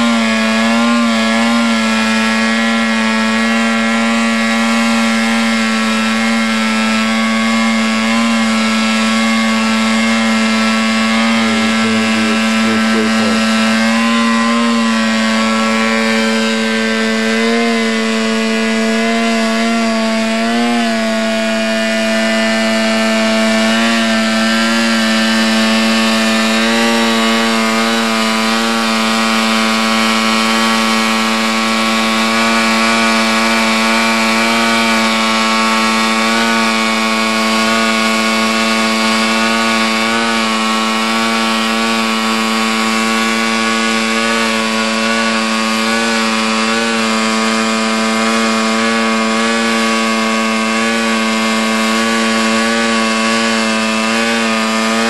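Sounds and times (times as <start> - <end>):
drone fan buzzing: 0.0 - 55.0.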